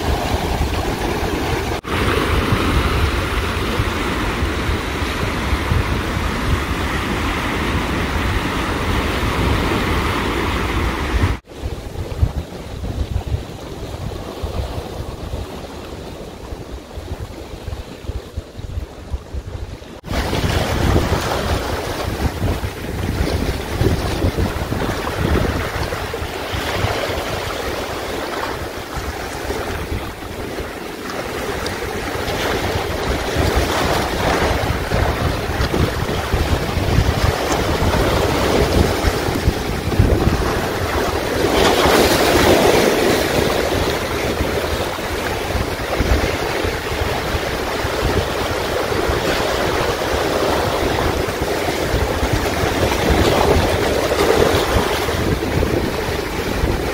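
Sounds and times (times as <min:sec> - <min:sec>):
waves washing against rocks: 0:00.0 - 0:56.9
wind buffeting microphone: 0:00.0 - 0:56.9.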